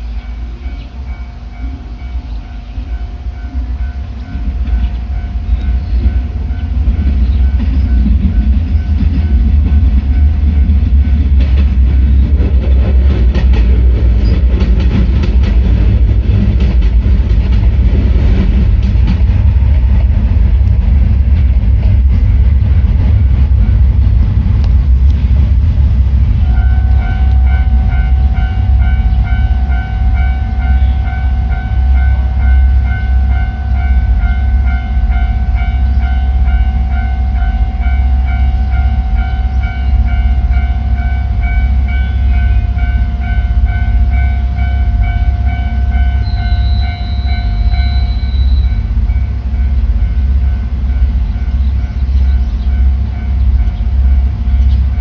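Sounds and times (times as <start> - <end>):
crossing warning bell clanging: 0.0 - 55.0
low train rumble: 0.0 - 55.0
train wheels clattering over rails: 0.0 - 55.0.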